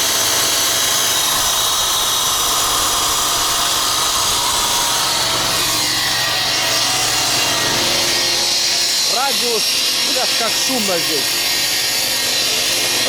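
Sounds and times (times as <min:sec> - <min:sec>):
brick-cutting machine whining: 0:00.0 - 0:13.0.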